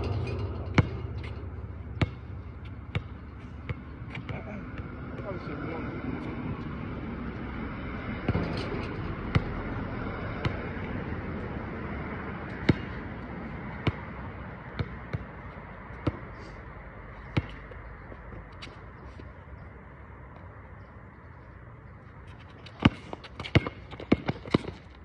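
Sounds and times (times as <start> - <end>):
basketball bouncing on asphalt: 0.0 - 5.5, 6.1 - 16.4, 17.1 - 19.0, 19.6 - 25.0.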